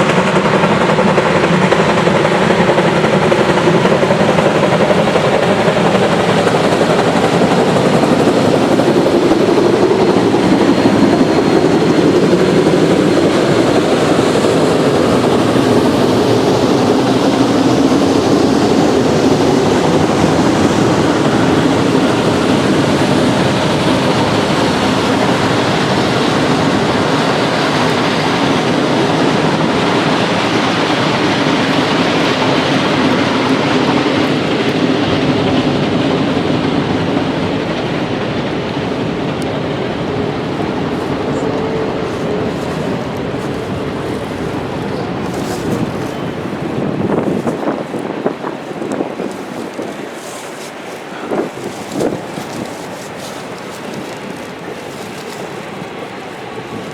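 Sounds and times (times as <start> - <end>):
steam locomotive running: 0.0 - 56.9.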